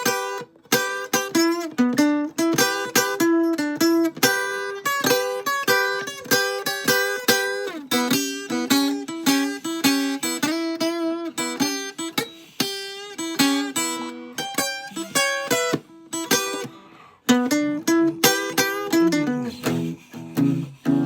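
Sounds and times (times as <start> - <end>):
blues guitar licks: 0.0 - 21.0.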